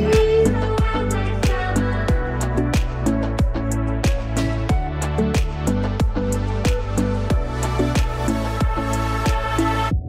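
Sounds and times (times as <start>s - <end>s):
held bass line: 0.0s - 10.0s.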